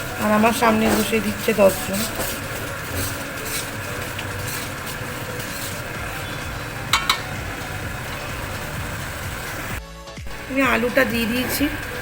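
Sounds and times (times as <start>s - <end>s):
stirring in metal pan: 0.0s - 9.8s
potatoes frying and sizzling: 0.0s - 12.0s.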